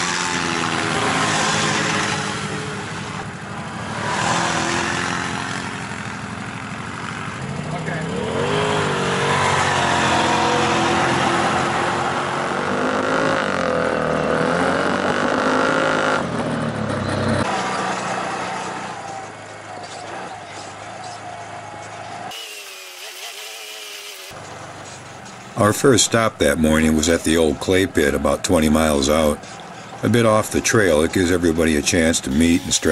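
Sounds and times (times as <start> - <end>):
off-road vehicle engines: 0.0 - 32.9.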